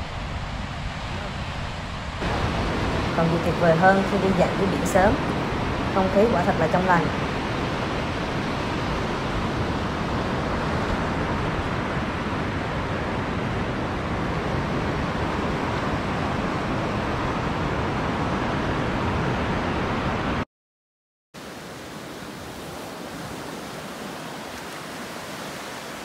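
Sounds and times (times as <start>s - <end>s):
sea surf rushing: 0.0s - 20.4s, 21.4s - 26.0s.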